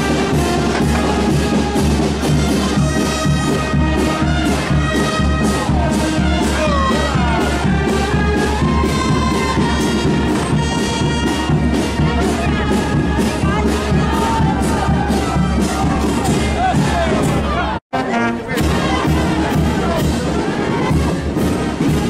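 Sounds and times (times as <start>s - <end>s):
steady drum beat: 0.0s - 17.8s, 18.5s - 22.0s
brass band playing a march: 0.0s - 22.0s.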